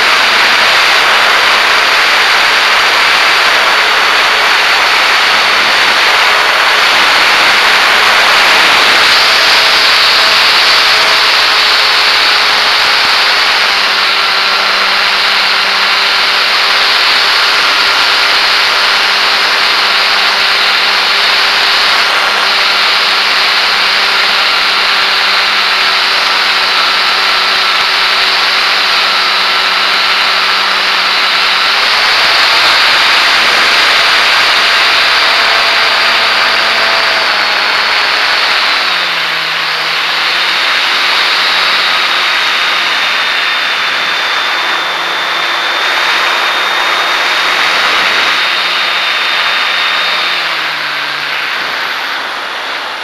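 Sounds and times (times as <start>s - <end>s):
airflow rushing over mic: 0.0s - 53.0s
model plane motor whine: 0.0s - 53.0s.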